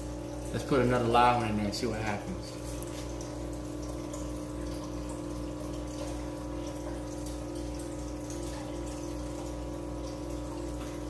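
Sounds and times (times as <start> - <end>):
aquarium pump hum: 0.0 - 11.0
bubbles fizzing and trickling: 0.0 - 11.0.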